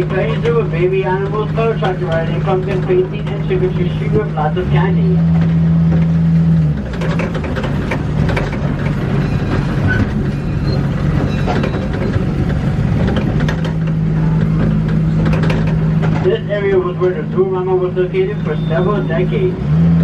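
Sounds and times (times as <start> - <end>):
small train engine hum: 0.0 - 20.0
wheels clattering and rattling: 0.0 - 20.0.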